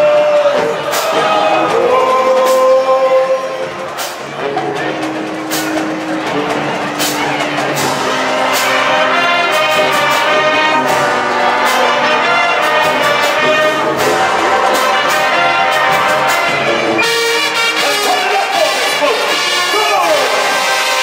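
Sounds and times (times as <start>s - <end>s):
marching band playing loudly: 0.0s - 21.0s
trumpets and trombones chords: 0.0s - 21.0s.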